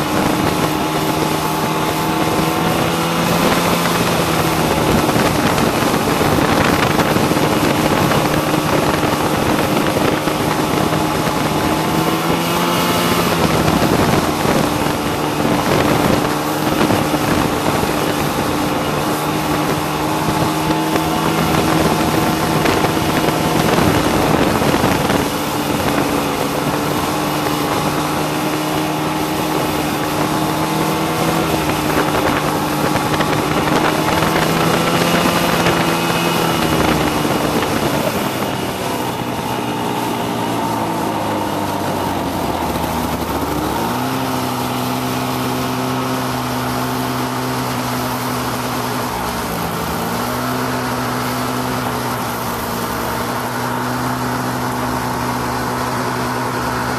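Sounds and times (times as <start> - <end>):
snowmobile engine running: 0.0 - 56.9.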